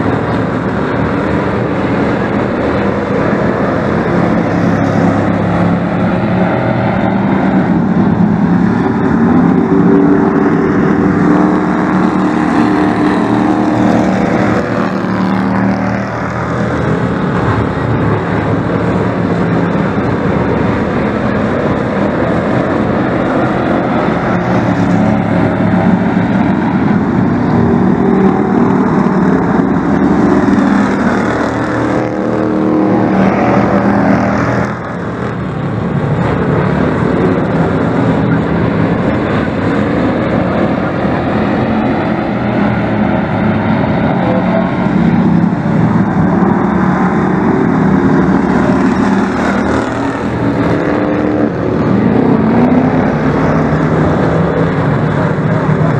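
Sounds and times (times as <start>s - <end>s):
race truck engines droning: 0.0s - 55.9s.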